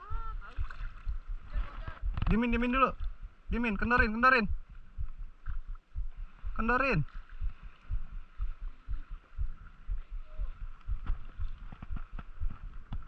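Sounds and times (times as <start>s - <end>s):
small waves slapping against camera: 0.0s - 13.0s.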